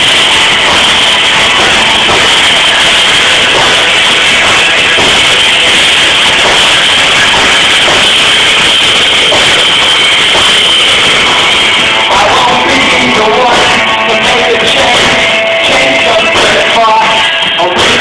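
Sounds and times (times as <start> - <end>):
bending guitar notes: 0.0 - 18.0
live rock band playing: 0.0 - 18.0.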